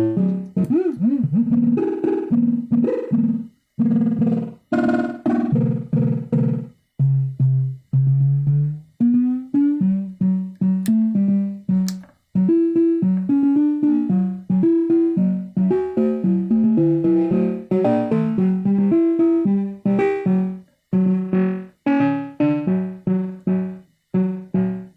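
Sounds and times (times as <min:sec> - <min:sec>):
instrumental music struck notes: 0:00.0 - 0:24.9.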